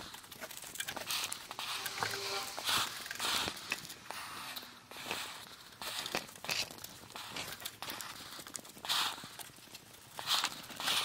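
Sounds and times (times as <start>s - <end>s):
hissy scrapes: 0.8s - 11.0s.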